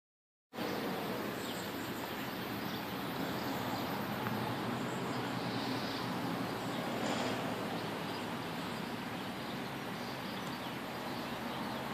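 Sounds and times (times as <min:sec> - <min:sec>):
outdoor background noise: 0:00.5 - 0:11.9
small birds chirping: 0:00.6 - 0:11.9.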